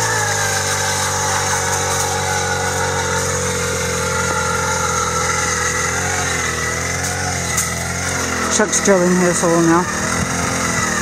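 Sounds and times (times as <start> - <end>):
ice auger engine drilling: 0.0 - 11.0.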